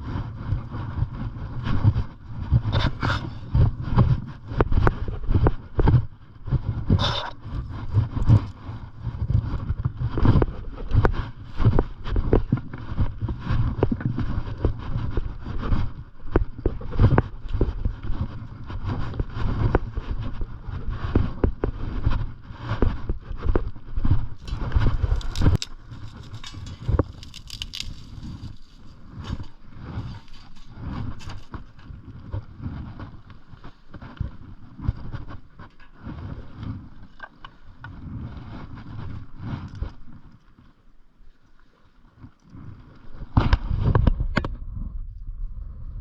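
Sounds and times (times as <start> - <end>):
wind rumble on microphone: 0.0 - 40.8, 41.6 - 46.0.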